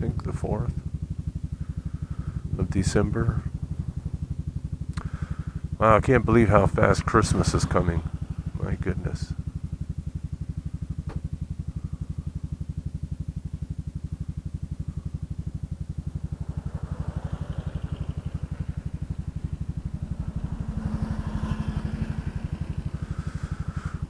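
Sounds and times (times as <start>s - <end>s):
scooter engine idling: 0.0s - 24.0s.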